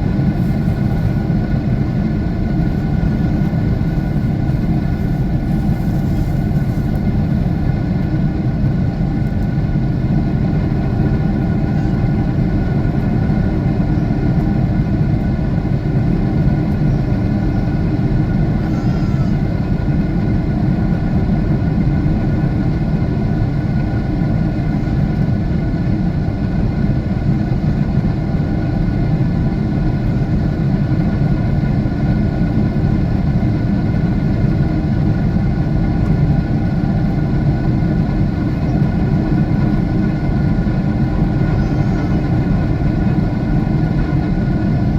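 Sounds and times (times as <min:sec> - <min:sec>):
jet engine cabin rumble: 0:00.0 - 0:44.9.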